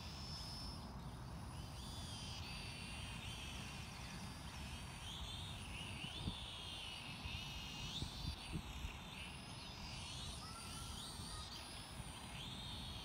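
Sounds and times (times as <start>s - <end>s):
quadcopter propellers whining: 1.6s - 13.0s.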